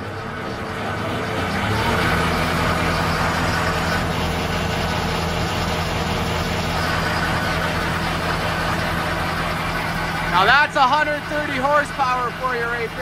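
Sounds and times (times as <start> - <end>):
snowblower spinning: 0.0 - 13.0
tractor engine running: 0.0 - 13.0.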